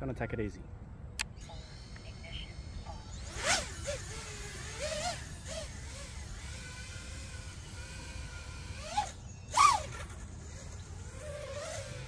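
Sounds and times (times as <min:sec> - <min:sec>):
drone motors whining: 0:01.2 - 0:12.0.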